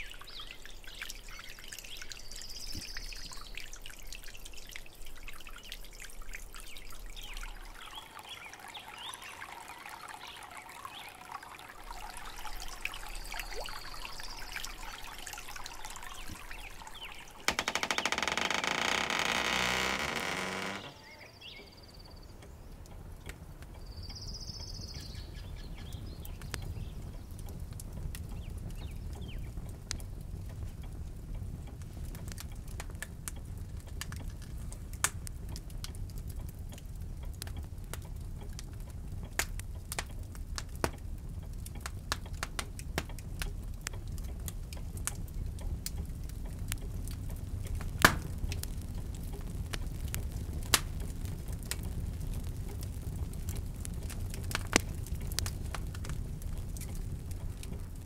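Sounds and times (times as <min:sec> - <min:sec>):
fire crackling and popping: 0:00.0 - 0:21.0, 0:22.3 - 0:24.2, 0:24.9 - 0:58.0.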